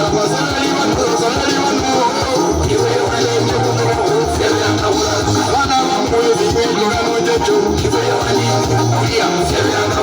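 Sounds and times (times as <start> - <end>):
song with plucked guitar and beat: 0.0 - 10.0.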